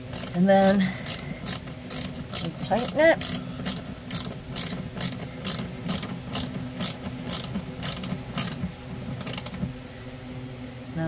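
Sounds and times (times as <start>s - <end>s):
ratchet wrench clicking: 0.0s - 8.6s, 9.2s - 9.6s.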